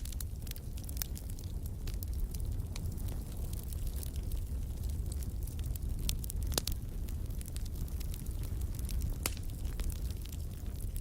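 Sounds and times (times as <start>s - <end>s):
faint fire crackles: 0.0s - 11.0s
low rumble of flames: 0.0s - 11.0s.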